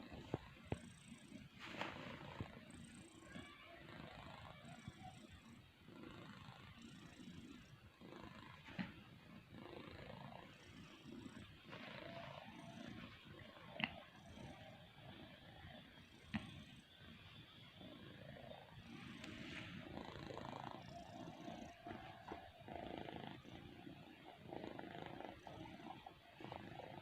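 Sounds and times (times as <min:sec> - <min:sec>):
animal snoring softly: 0:00.0 - 0:27.0.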